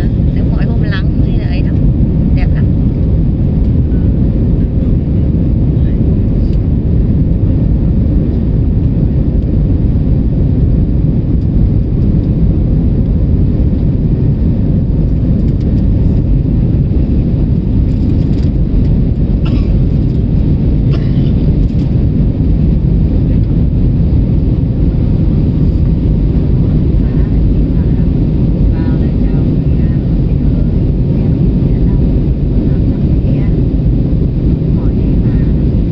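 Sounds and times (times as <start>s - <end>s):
jet engines rumbling in cabin: 0.0s - 35.9s
rushing air: 0.0s - 35.9s.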